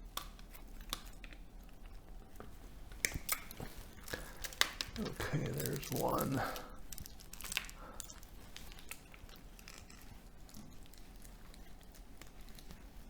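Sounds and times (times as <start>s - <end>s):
tape crinkling: 0.0s - 13.0s.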